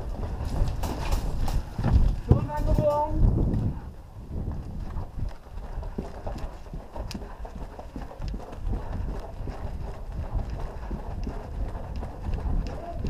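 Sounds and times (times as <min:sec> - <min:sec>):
footsteps on gritty brick floor: 0:00.0 - 0:13.0.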